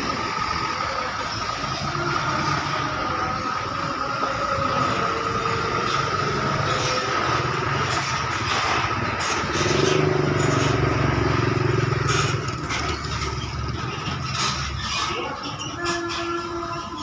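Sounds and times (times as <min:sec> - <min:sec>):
bus diesel engine running: 0:00.0 - 0:17.0
traffic din: 0:00.0 - 0:17.0.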